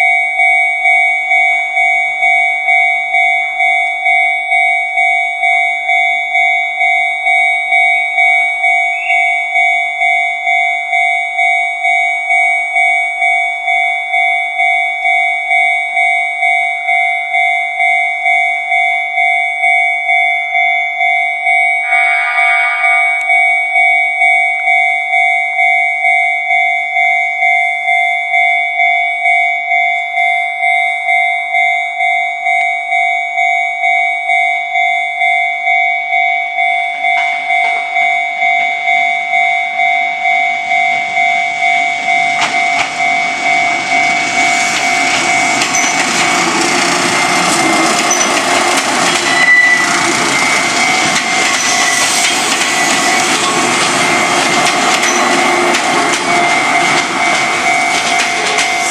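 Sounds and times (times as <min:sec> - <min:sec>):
passing train: 0:00.0 - 0:31.7, 0:36.5 - 0:58.9
level crossing electronic bell: 0:00.0 - 0:58.9.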